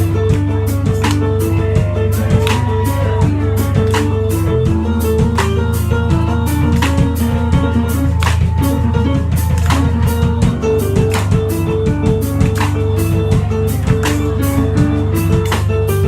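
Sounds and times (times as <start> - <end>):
bass line: 0.0 - 16.0
drum kit beat: 0.0 - 16.0.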